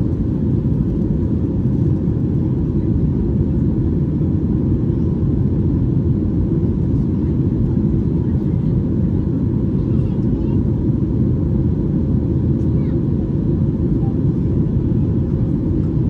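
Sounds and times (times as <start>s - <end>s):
low rumble of engines and airflow: 0.0s - 16.0s.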